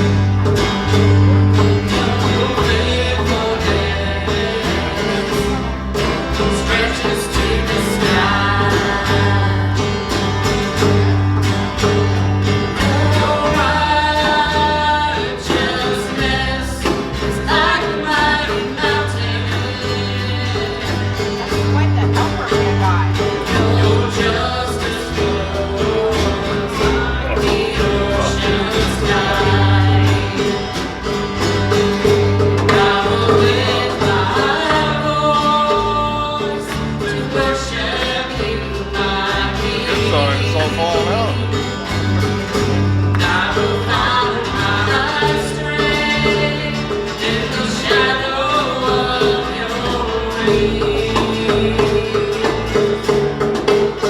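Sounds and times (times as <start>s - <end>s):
steady bass line: 0.0s - 54.0s
voices singing: 0.0s - 54.0s
worship band playing gospel: 0.0s - 54.0s.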